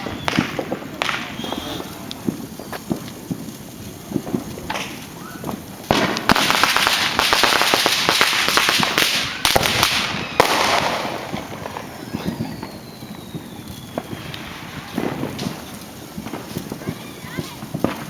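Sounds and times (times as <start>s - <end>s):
falling firework whistle: 0.0s - 18.0s
firecracker bangs: 0.0s - 18.0s.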